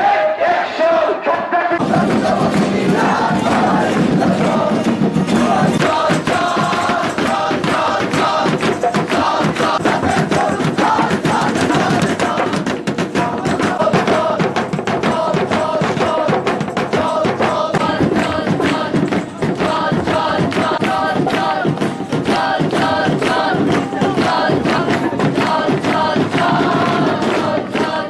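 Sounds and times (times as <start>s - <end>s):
group of voices chanting: 0.0s - 28.0s
fast drumming: 1.8s - 28.0s.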